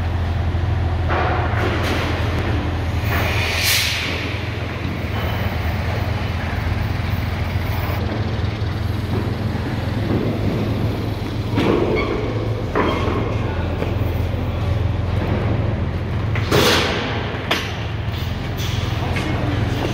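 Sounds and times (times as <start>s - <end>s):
crane engine running: 0.0s - 19.9s.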